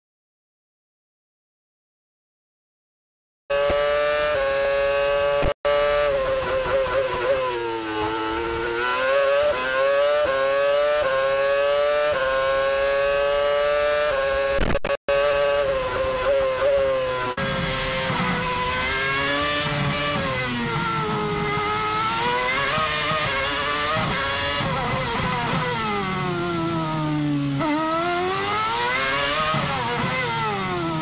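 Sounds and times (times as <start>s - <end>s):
racing car engine at high revs: 3.5s - 31.0s.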